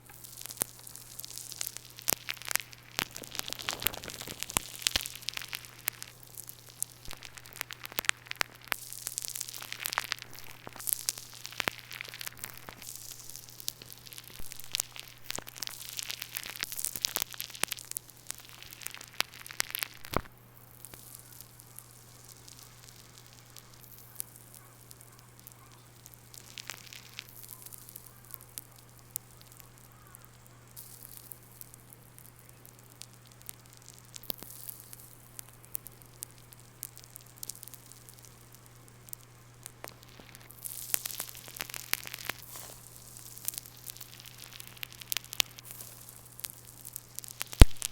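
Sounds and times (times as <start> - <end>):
slime crackling and popping: 0.0 - 47.9.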